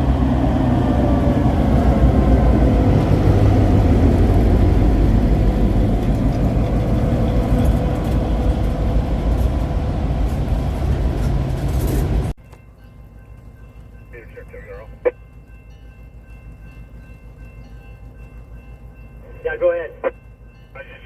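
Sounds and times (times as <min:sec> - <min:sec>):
locomotive engine rumbling: 0:00.0 - 0:21.0.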